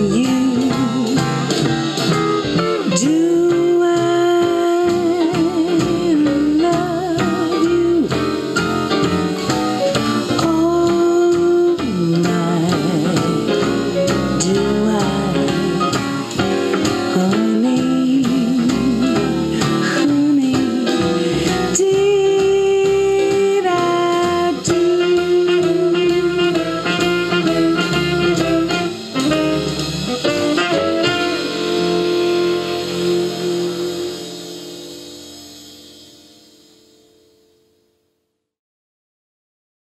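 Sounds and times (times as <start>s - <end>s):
jazz-blues music over loudspeaker: 0.0s - 37.3s.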